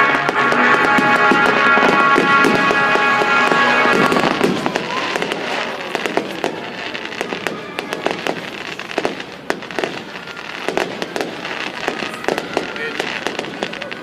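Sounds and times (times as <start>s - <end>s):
fireworks bursting: 0.0s - 14.0s
fireworks crackling pops: 0.0s - 14.0s.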